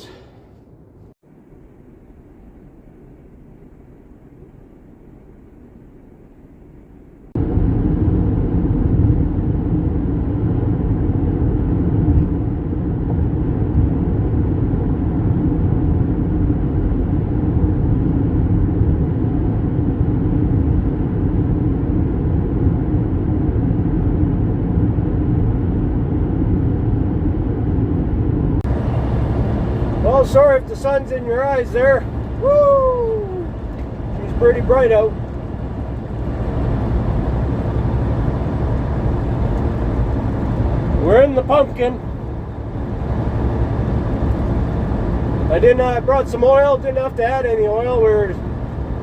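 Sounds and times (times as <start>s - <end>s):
vehicle engine and road noise: 0.0s - 49.0s.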